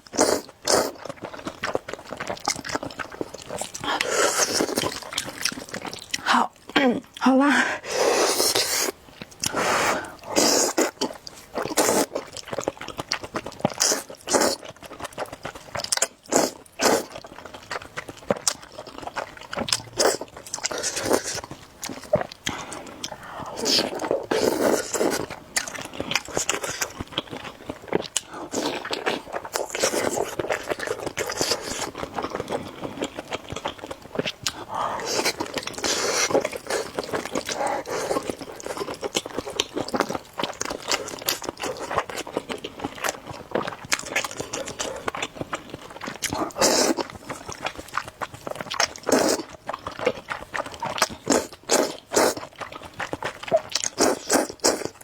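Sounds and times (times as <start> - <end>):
person biting and chewing food: 8.1 - 55.0.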